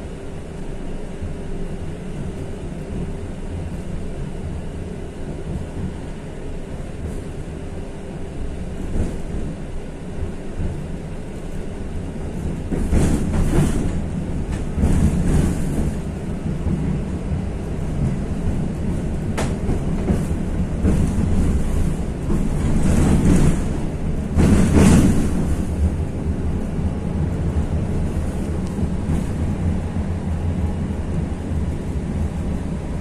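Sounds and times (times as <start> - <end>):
tram rumbling on rails: 0.0 - 33.0.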